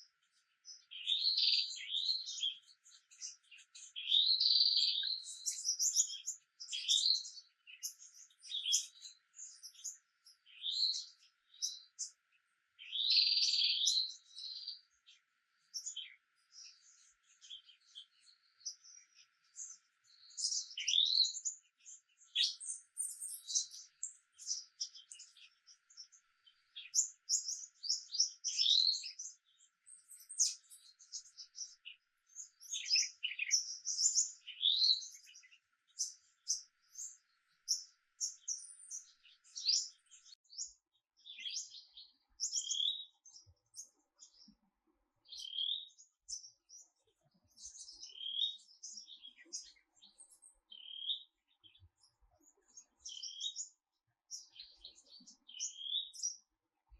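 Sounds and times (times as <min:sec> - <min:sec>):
songbirds chirping and singing: 0:00.0 - 0:56.9.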